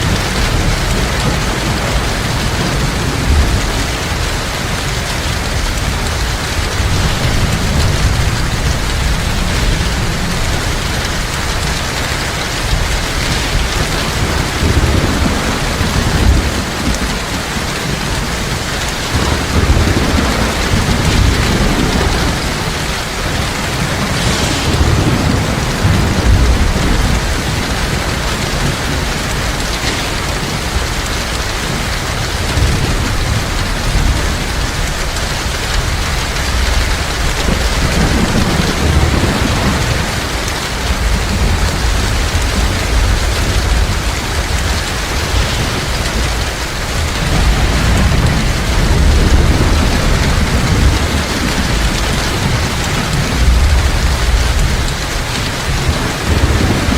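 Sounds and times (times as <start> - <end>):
heavy rain falling: 0.0 - 56.9
low thunder rumbling: 0.0 - 56.9.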